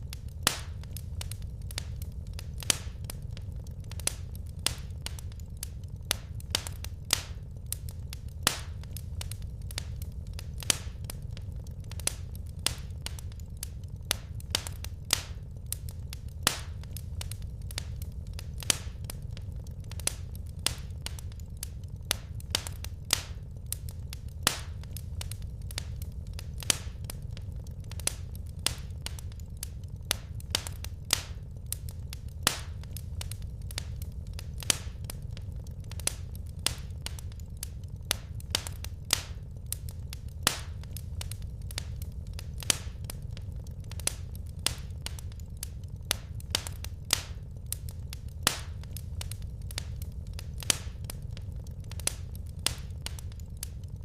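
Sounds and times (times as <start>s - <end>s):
low fire rumble: 0.0s - 54.0s
wood fire pops and snaps: 0.0s - 54.0s.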